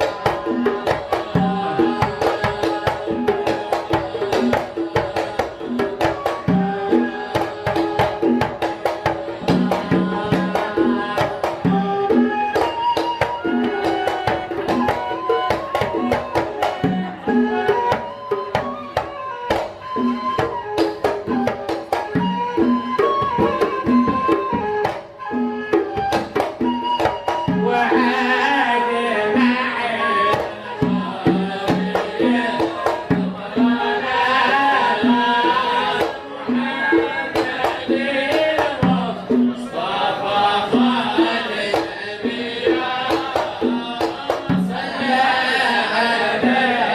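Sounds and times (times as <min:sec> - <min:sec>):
person singing a melody: 0:00.0 - 0:18.6, 0:27.6 - 0:46.9
hand drum rhythm: 0:00.0 - 0:46.9.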